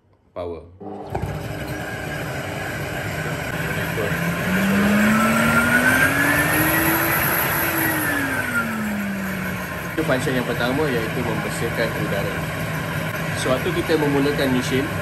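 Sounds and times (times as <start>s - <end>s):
vacuum motor running: 0.8s - 15.0s.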